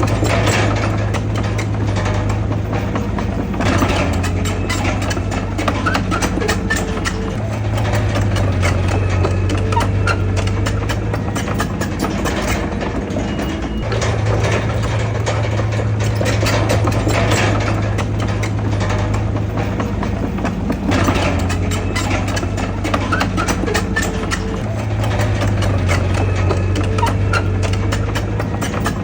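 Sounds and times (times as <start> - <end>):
heavy diesel engine humming: 0.0 - 29.0
metallic clanks and rattles: 0.0 - 29.0.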